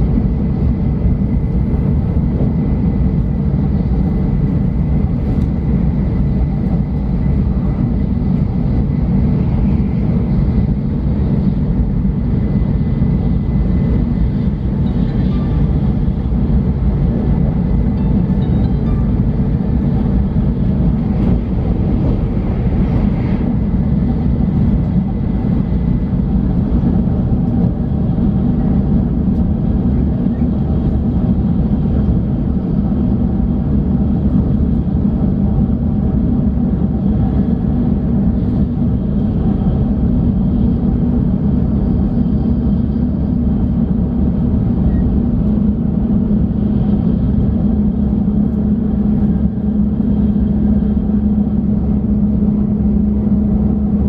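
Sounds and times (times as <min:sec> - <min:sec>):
train cabin low rumble: 0:00.0 - 0:54.0.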